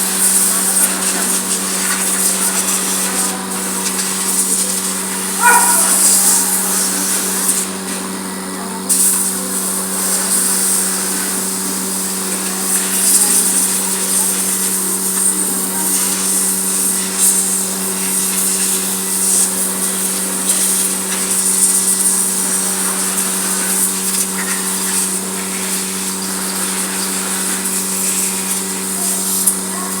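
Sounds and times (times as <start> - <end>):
high air jet hiss: 0.0 - 8.2, 8.9 - 30.0
small motor humming: 0.0 - 30.0.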